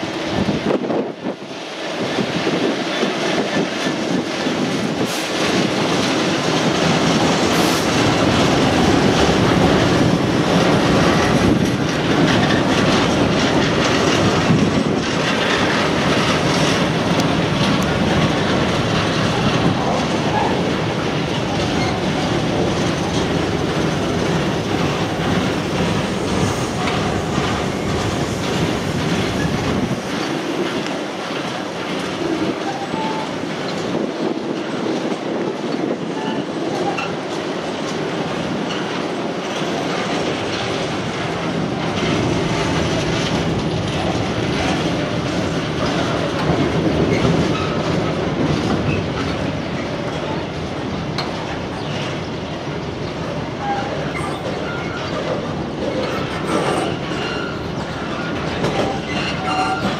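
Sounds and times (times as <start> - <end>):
deep train rumble: 0.0 - 59.9
train wheels clattering over rail joints: 0.0 - 59.9.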